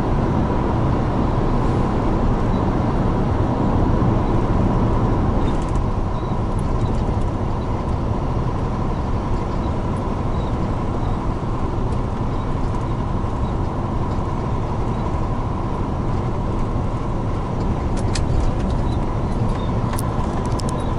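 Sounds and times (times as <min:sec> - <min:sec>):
road noise: 0:00.0 - 0:20.9
truck diesel engine drone: 0:00.0 - 0:20.9.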